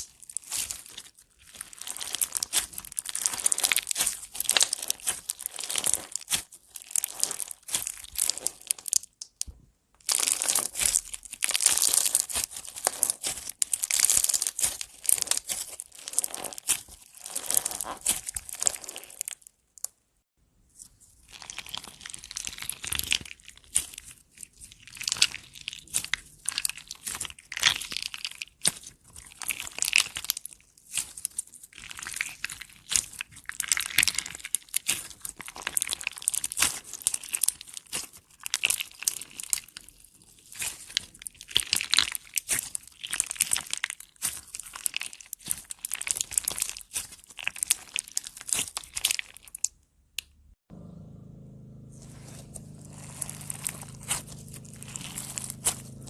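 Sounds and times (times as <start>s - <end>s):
slime squishing and popping: 0.0s - 19.4s, 21.2s - 49.8s.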